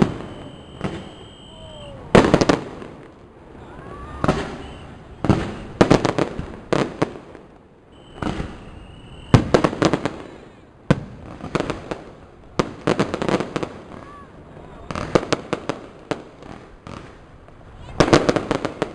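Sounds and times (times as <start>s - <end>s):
fireworks bangs and cracks: 0.0s - 18.9s.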